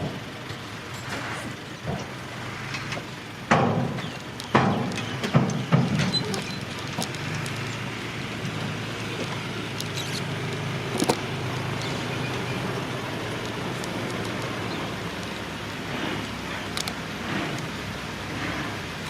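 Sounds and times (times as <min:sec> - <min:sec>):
bulldozer diesel engine running: 0:00.0 - 0:19.0
sharp metallic clicks: 0:01.8 - 0:17.8.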